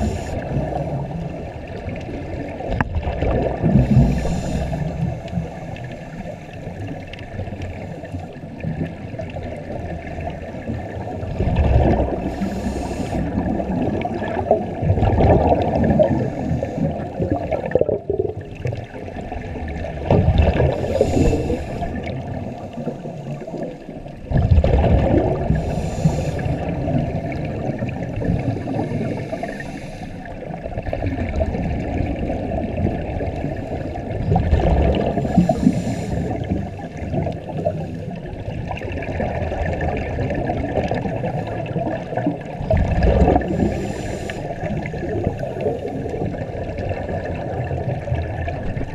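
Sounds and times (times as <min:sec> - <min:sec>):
low rumble of water: 0:00.0 - 0:48.9.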